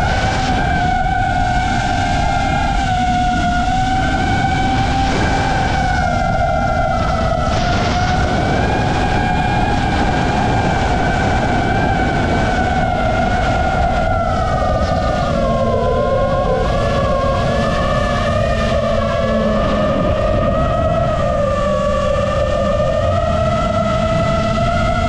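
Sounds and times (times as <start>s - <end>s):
drone motors whining: 0.0s - 25.0s
wind rush: 0.0s - 25.0s.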